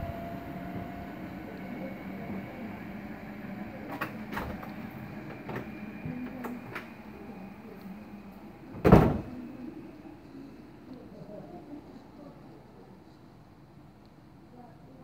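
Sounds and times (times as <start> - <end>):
train humming: 0.0 - 14.0.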